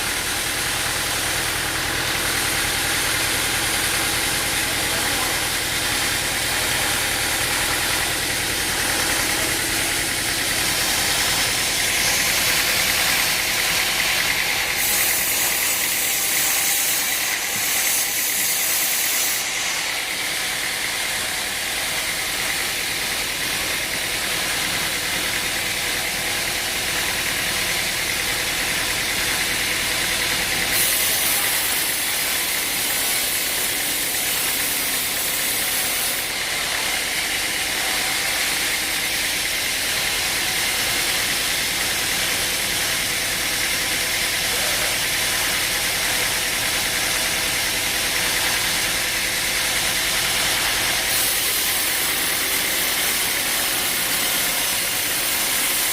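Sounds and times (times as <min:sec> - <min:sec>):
engine-driven machine running: 0:00.0 - 0:55.9.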